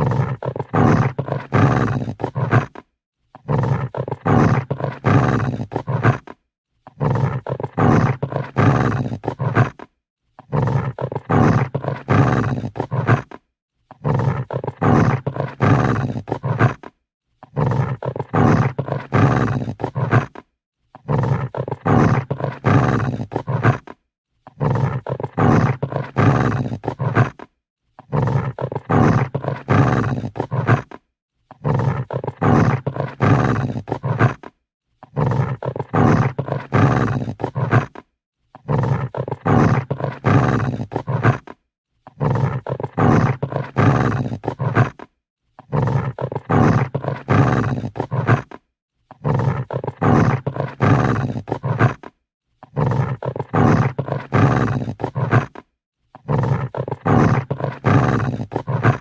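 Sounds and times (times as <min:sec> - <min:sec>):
dog growling: 0:00.0 - 0:59.0.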